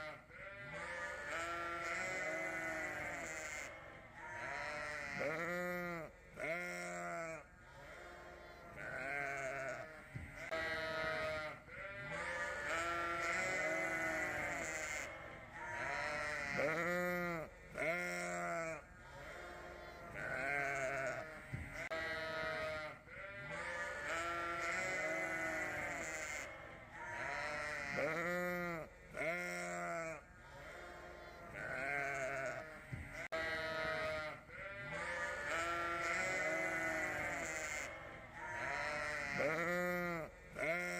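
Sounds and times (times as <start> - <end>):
sheep bleating: 0.0 - 40.9.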